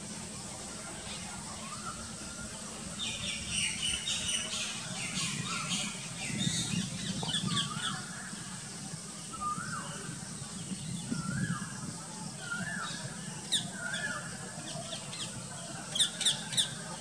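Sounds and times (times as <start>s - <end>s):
birds chirping: 0.3s - 17.0s.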